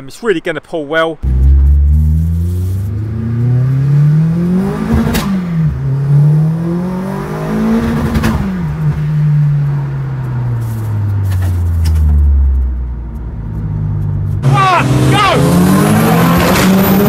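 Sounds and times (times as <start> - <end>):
car engine accelerating: 1.2 - 17.0.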